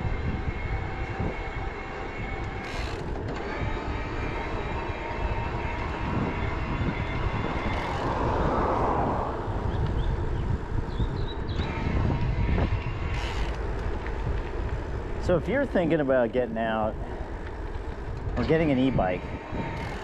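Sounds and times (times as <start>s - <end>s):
wind buffeting microphone: 0.0s - 20.0s
vehicle passing: 3.4s - 20.0s.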